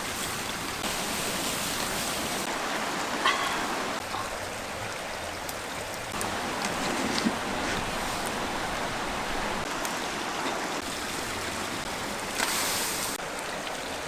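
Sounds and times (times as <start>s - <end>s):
bright water hiss: 0.0s - 4.3s, 6.1s - 13.2s
flowing water rushing: 0.0s - 14.0s.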